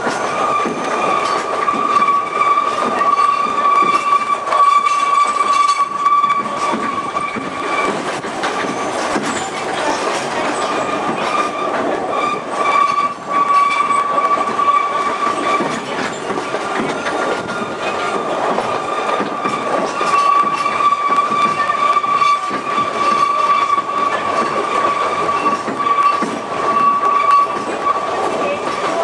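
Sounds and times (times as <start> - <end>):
train running rumble: 0.0 - 29.0
wheels clacking over rail joints: 0.0 - 29.0
wheels squealing on rail: 0.0 - 29.0.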